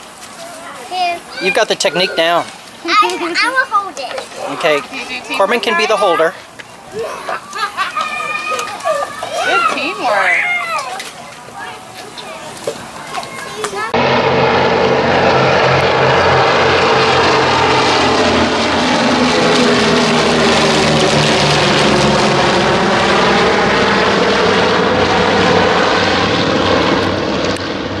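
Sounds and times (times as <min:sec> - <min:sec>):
propeller aircraft engines drone: 0:00.9 - 0:28.0.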